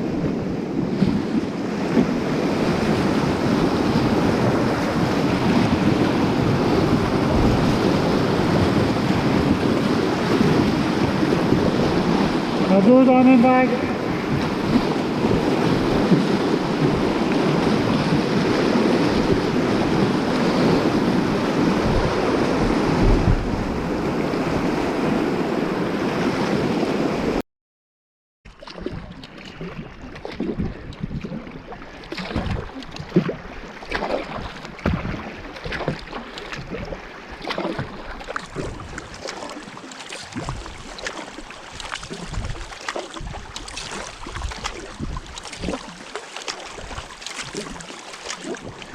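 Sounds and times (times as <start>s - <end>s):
water splashes: 0.0s - 23.3s, 28.5s - 48.9s.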